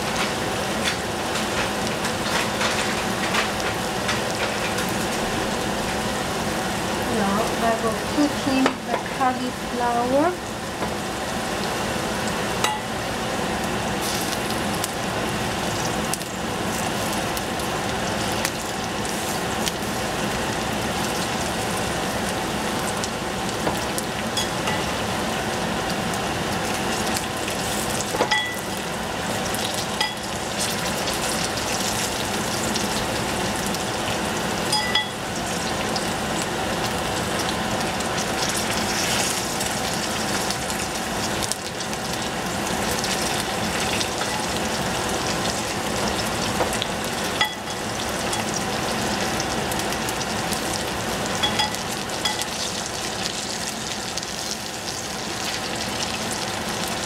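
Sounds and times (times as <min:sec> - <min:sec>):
vegetables sizzling in a saucepan: 0:00.0 - 0:57.0.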